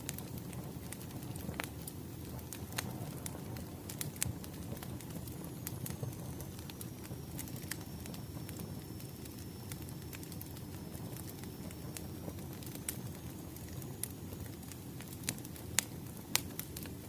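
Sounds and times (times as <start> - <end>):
fire crackles and pops: 0.0 - 17.0
fire flames rumbling: 0.0 - 17.0.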